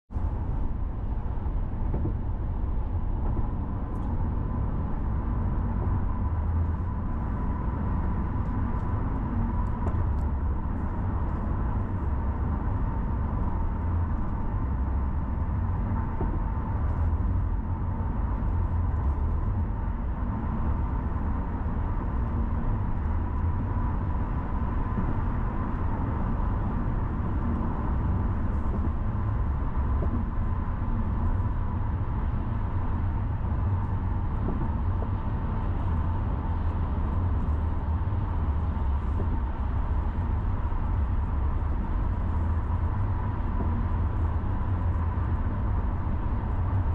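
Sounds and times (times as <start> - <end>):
car engine and tyres rumbling: 0.1 - 46.9
faint steady whine: 0.2 - 46.9.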